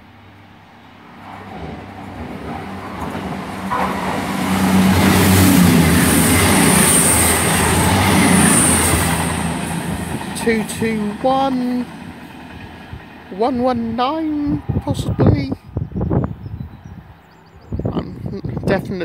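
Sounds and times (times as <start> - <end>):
train engine passing: 0.0 - 15.4
train wheel rumble: 0.0 - 15.4.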